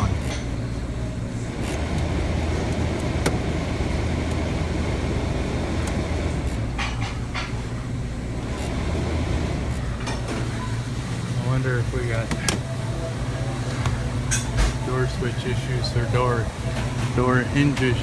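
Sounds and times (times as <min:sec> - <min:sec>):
freezer humming: 0:00.0 - 0:18.0.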